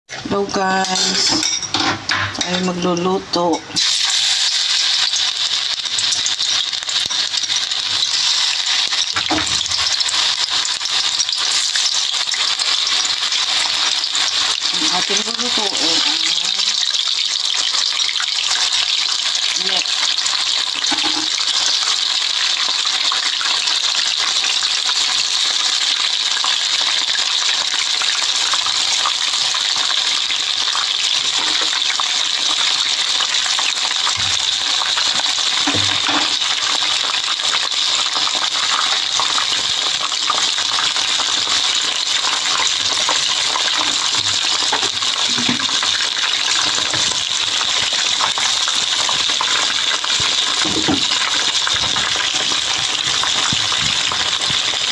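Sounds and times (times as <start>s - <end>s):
oil sizzling and crackling: 0.1s - 54.9s.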